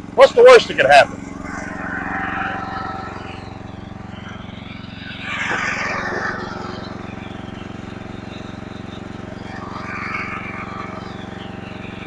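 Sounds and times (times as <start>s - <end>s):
riding mower engine running: 0.0s - 12.0s
loud rushing swell: 0.3s - 12.0s.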